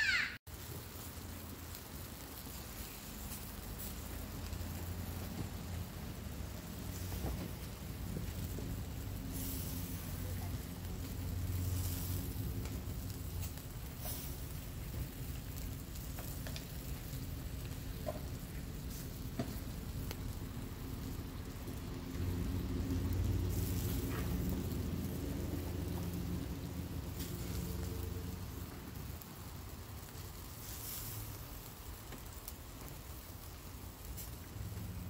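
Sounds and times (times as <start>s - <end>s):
coals popping and crackling: 0.0s - 35.0s
kebabs sizzling on a grill: 0.0s - 35.0s.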